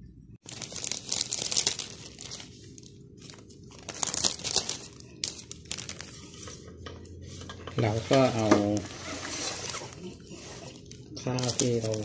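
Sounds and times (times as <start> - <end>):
plastic bag crinkling: 0.4 - 6.6, 8.1 - 12.0.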